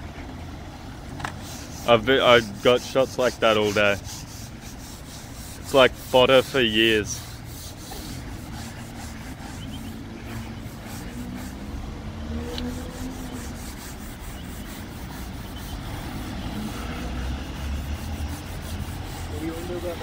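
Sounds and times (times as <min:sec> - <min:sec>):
low traffic rumble: 0:00.0 - 0:20.0
mops scrubbing wet tiles: 0:01.4 - 0:20.0.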